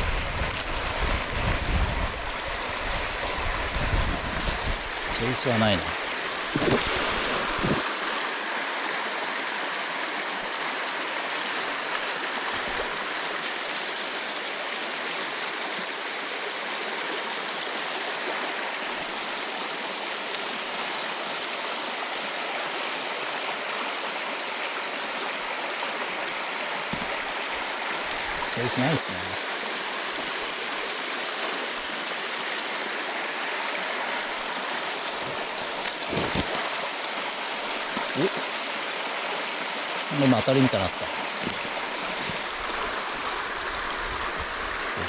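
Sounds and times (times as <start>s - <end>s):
river water flowing over rocks: 0.0s - 45.0s.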